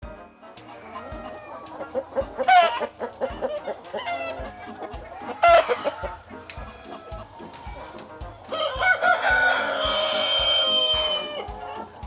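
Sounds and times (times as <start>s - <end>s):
chicken squawk: 0.0s - 12.0s
chickens clucking: 0.0s - 12.0s.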